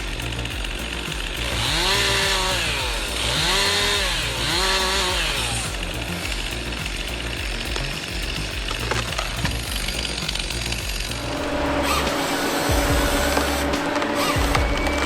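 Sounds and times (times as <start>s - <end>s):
chainsaw engine revving: 0.0s - 15.0s
music with low beat: 0.0s - 15.0s.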